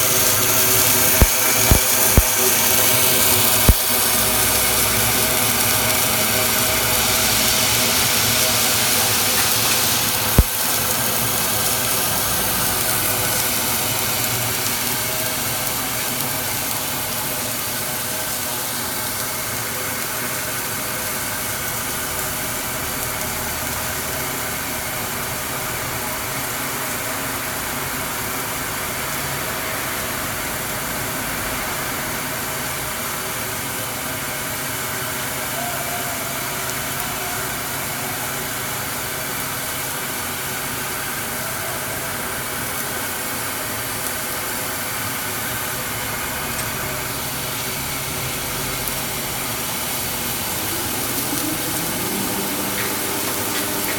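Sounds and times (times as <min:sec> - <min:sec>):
welding machine hum and hiss: 0:00.0 - 0:53.9.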